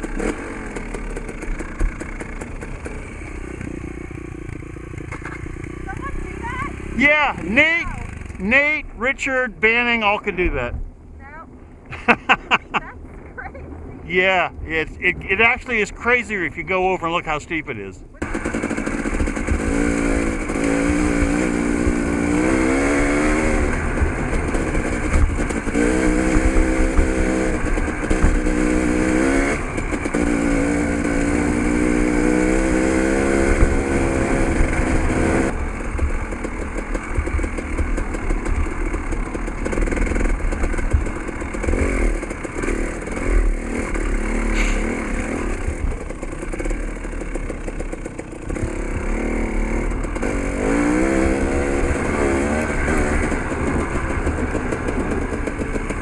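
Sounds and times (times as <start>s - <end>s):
dirt bike engine revving: 0.0s - 11.4s, 14.4s - 56.0s.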